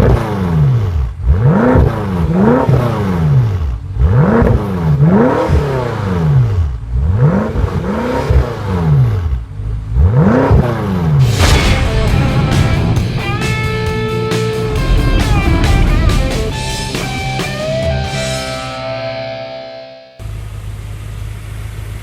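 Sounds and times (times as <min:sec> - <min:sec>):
car engine revving: 0:00.0 - 0:19.2.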